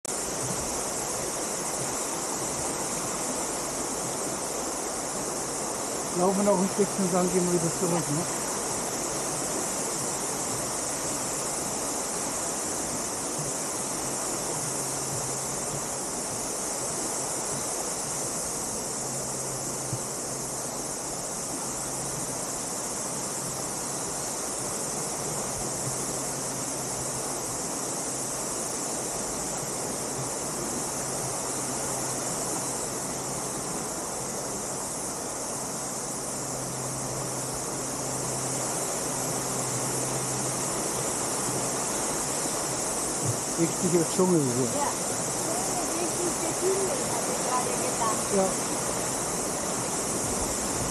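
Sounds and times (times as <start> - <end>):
flowing stream water: 0.0 - 50.9
high-pitched insect chorus: 0.0 - 50.9.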